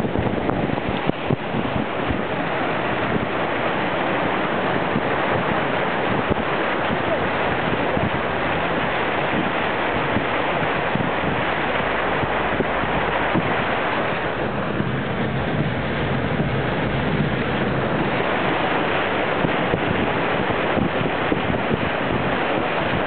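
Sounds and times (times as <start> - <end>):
car ploughing through floodwater: 0.0 - 23.0
heavy rain: 0.0 - 23.0.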